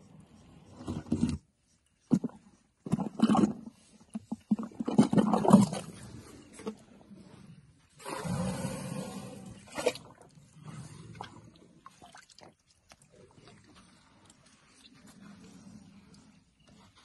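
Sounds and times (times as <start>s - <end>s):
elephant trunk sucking water: 2.0s - 17.0s.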